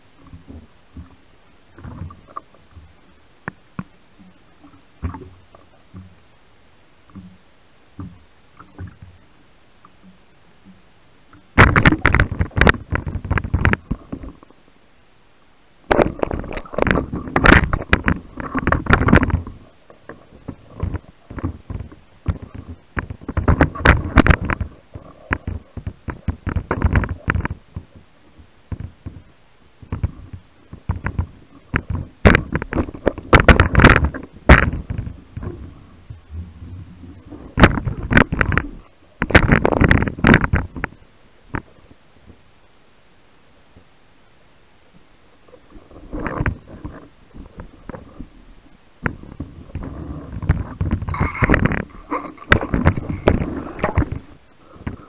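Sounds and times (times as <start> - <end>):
underwater gurgling rumble: 0.0 - 42.8, 44.7 - 55.0
underwater knocks and clicks: 0.2 - 1.2, 1.8 - 6.2, 7.1 - 7.4, 8.0 - 9.2, 9.8 - 14.5, 15.9 - 28.1, 28.7 - 42.4, 45.5 - 55.0.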